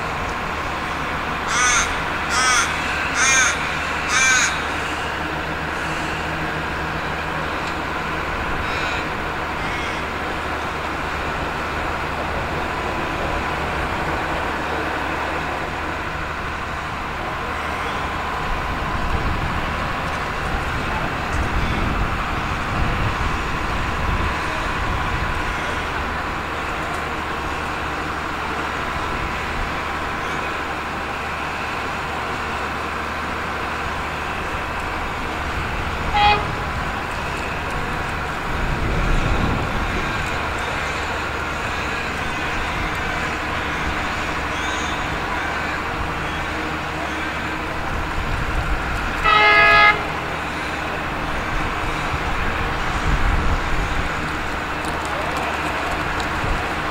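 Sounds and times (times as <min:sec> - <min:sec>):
diesel locomotive horn: 0:00.0 - 0:56.9.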